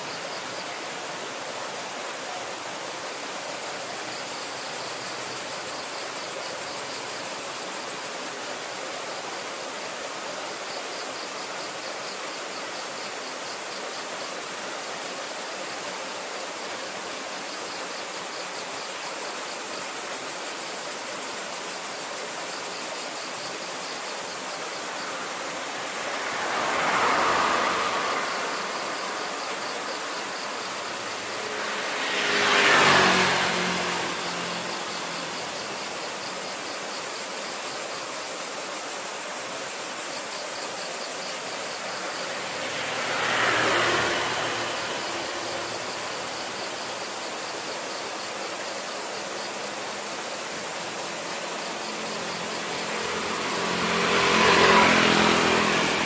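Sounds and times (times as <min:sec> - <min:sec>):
road vehicles passing by: 0:00.0 - 0:56.0
steady background hiss: 0:00.0 - 0:56.0.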